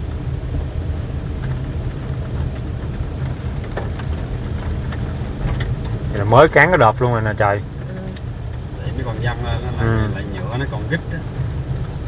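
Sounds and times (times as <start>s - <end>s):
vehicle engine and tyre drone: 0.0s - 12.0s.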